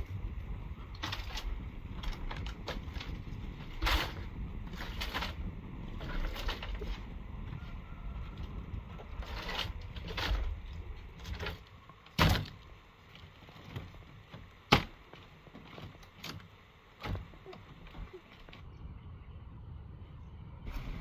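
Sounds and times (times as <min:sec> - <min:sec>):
bamboo slats rustling and creaking: 0:00.0 - 0:18.6.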